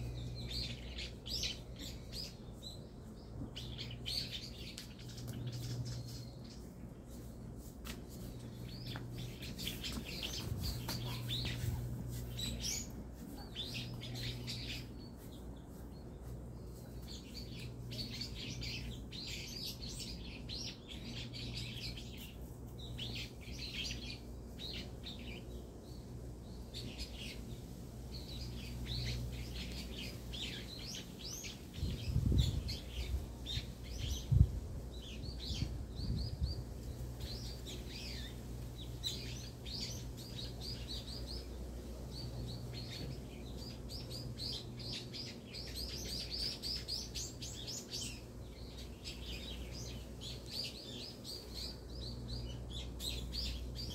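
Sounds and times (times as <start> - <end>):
low steady hum: 0.0 - 53.9
small birds chirping: 0.0 - 53.9.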